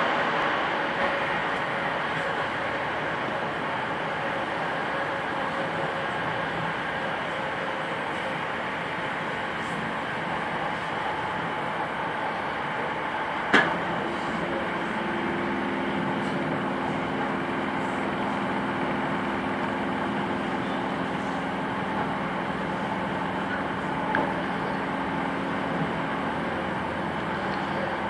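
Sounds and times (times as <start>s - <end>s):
train rumble and hiss: 0.0s - 28.0s.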